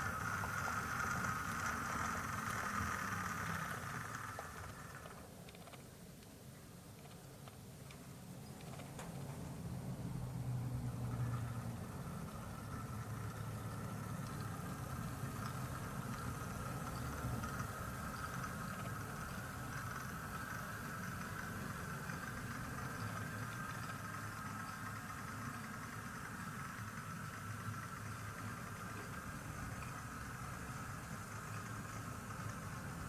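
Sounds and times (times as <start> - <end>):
model locomotive hum: 0.0 - 33.0.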